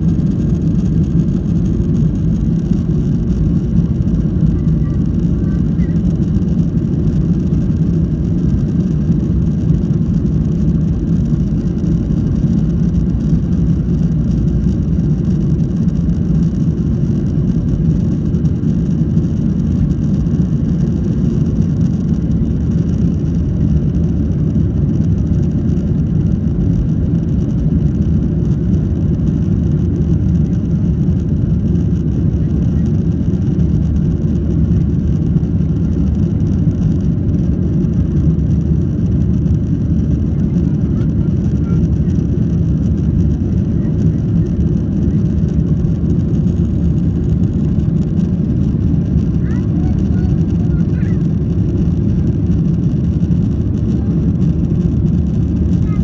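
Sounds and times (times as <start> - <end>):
jet engines at takeoff thrust: 0.0 - 56.0.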